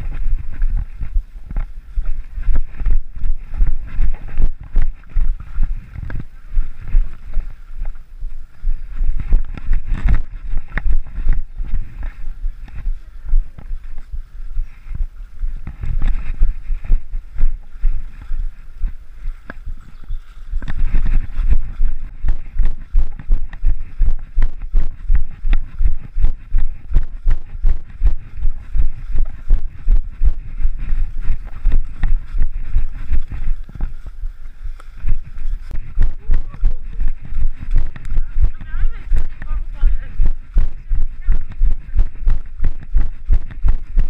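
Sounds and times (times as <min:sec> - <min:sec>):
running footsteps on dry leaves: 0:00.0 - 0:44.0
wind rumbling on microphone: 0:00.0 - 0:44.0.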